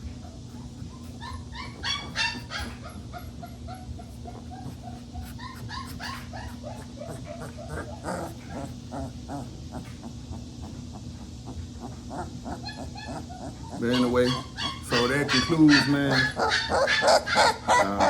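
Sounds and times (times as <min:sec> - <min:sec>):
puppies whimpering and yipping: 0:00.0 - 0:18.0.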